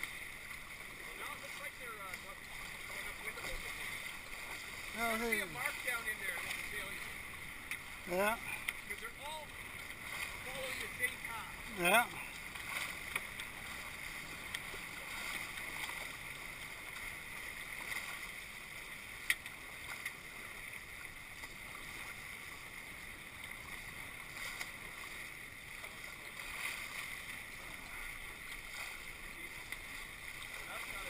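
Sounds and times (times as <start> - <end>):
water rushing along hulls: 0.0 - 31.0.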